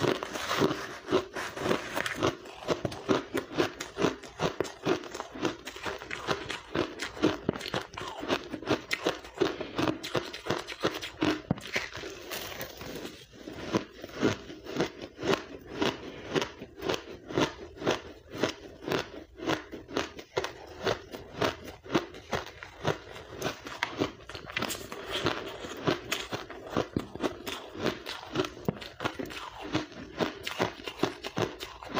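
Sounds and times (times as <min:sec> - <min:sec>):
ice crunching in mouth: 0:00.0 - 0:31.9.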